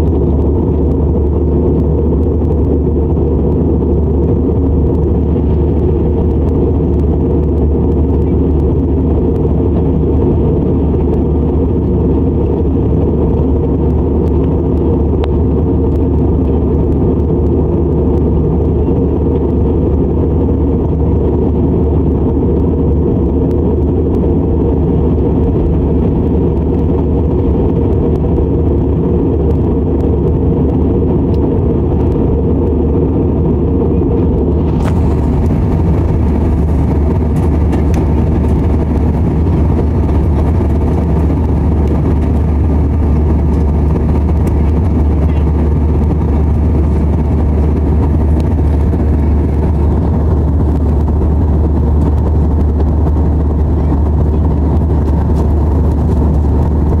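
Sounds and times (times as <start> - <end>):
airliner cabin drone: 0.0 - 57.0.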